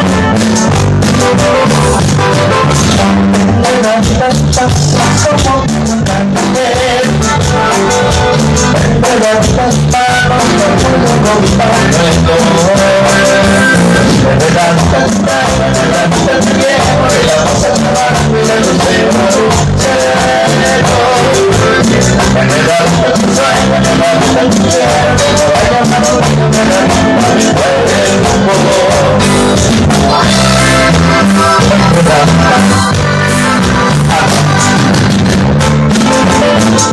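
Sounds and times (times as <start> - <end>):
latin band music: 0.0 - 36.9
person singing: 0.0 - 36.9.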